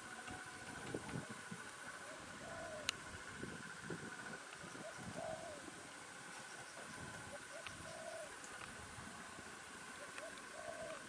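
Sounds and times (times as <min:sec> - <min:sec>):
bird cooing: 0:00.0 - 0:11.0
steady high buzz: 0:00.0 - 0:11.0.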